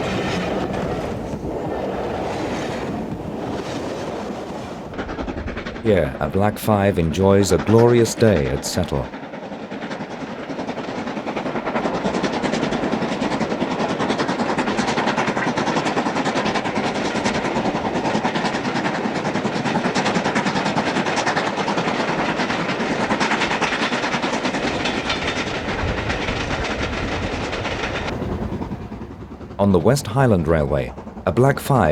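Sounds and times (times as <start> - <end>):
steam train running by: 0.0 - 31.9
wheels clattering on rails: 0.0 - 31.9.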